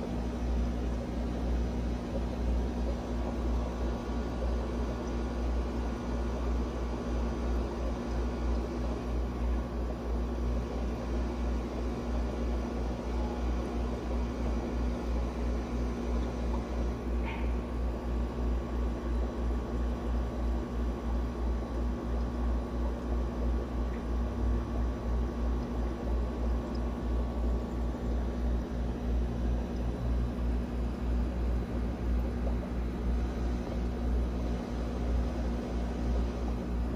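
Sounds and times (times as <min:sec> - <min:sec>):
low pulsing mechanical hum: 0:00.0 - 0:36.9.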